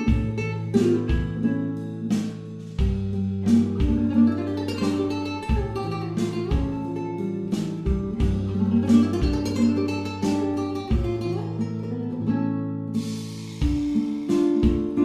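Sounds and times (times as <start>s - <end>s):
bass notes: 0.0s - 12.2s
acoustic guitar picking melody: 0.0s - 15.0s.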